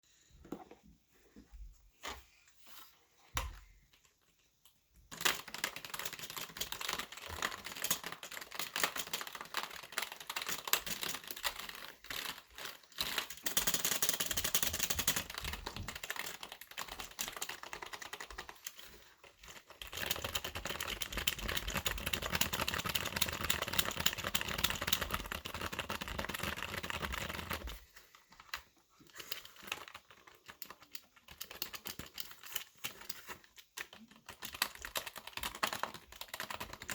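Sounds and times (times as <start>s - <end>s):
fast typing on keyboard: 5.1s - 36.9s.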